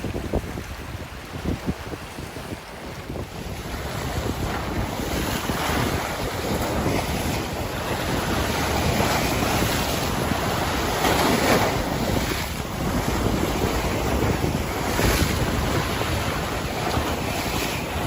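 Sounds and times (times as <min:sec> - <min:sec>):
ocean waves washing: 0:00.0 - 0:18.0
wind rumbling on microphone: 0:00.0 - 0:18.0.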